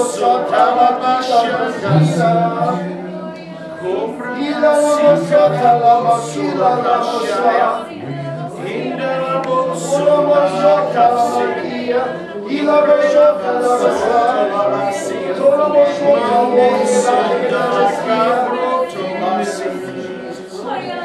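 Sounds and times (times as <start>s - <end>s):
congregation praying aloud: 0.0s - 21.0s
people singing: 0.0s - 21.0s.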